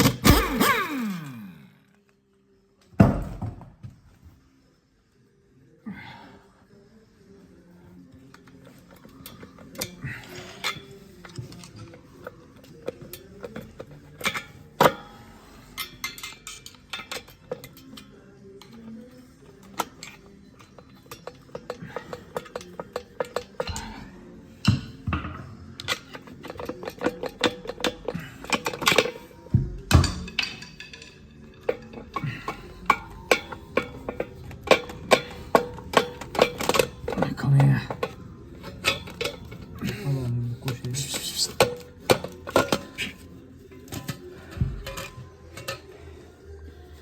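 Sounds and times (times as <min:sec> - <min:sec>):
metal tools clinking: 0:08.4 - 0:47.0.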